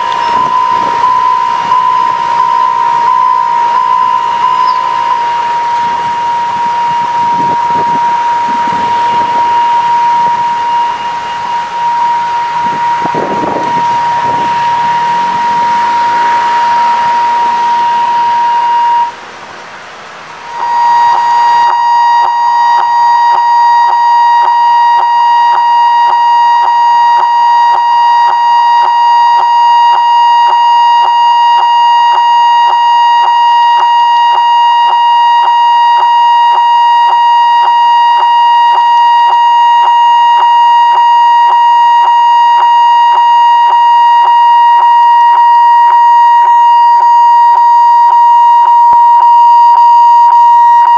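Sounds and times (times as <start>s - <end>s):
warning signal dings: 0.0s - 19.1s, 20.5s - 50.9s
level crossing warning tone: 0.0s - 19.2s, 20.4s - 50.9s.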